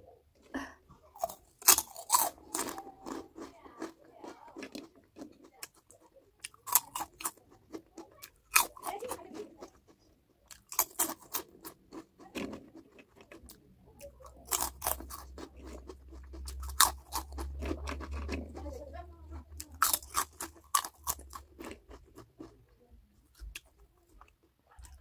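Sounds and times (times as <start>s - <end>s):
crunchy food chewing: 1.1s - 25.0s.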